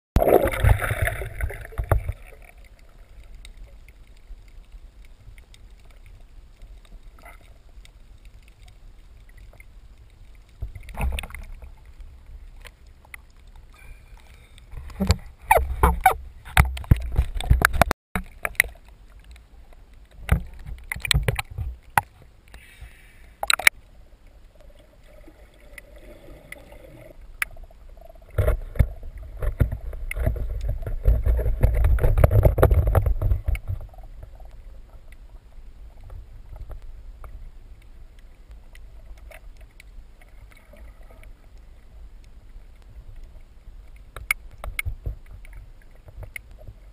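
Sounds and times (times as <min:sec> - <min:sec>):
water splashing: 0:00.2 - 0:46.9.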